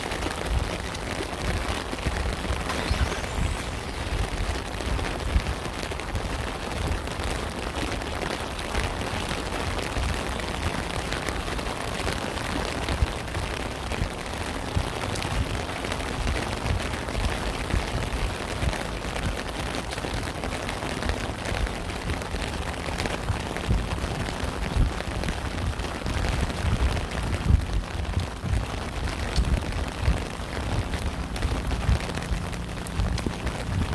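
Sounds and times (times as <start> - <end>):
steady rain falling: 0.0 - 33.9
uneven low rumble: 0.0 - 33.9.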